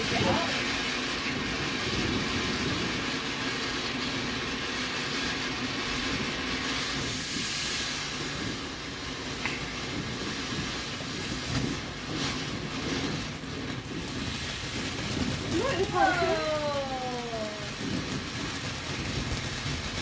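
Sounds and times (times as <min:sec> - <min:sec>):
firework crackles: 0:00.0 - 0:20.0
firework fountain hissing: 0:00.0 - 0:20.0.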